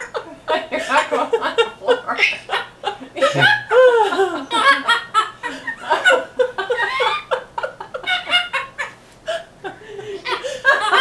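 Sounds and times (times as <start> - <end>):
laughter: 0.0 - 11.0.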